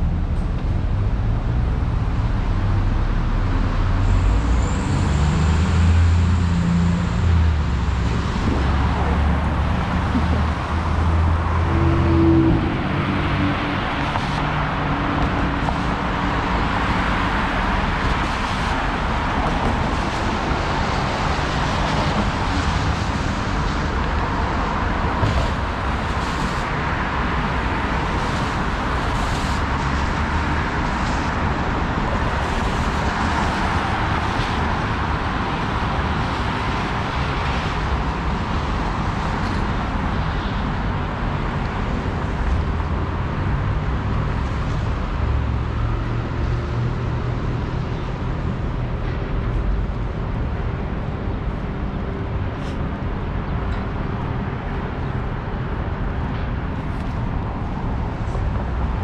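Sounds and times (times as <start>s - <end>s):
cars driving on wet road: 0.0s - 59.0s
vehicle engine hum: 0.0s - 59.0s.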